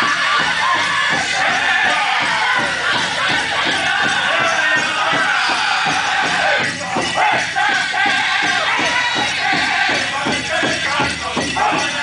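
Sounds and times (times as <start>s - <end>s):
crowd noise: 0.0s - 12.0s
jingling bells: 0.0s - 12.0s
men singing together: 0.0s - 12.0s
steady drumbeat: 0.0s - 12.0s.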